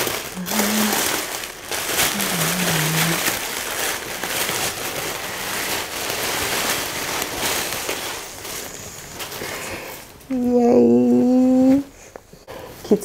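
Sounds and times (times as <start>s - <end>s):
tissue paper rustling: 0.0s - 11.9s.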